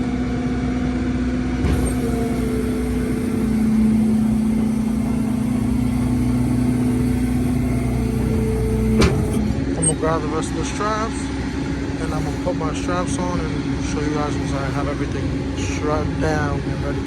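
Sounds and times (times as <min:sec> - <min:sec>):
tow truck engine and hydraulics drone: 0:01.6 - 0:17.0.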